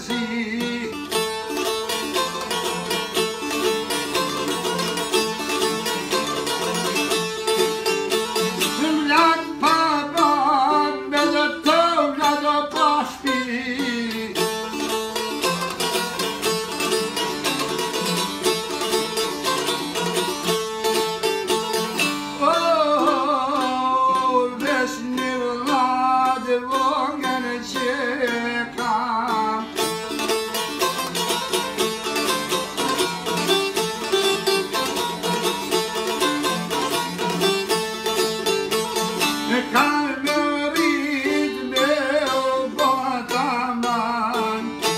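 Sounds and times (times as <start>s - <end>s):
man singing folk song: 0.0s - 44.9s
plucked lutes: 0.0s - 44.9s.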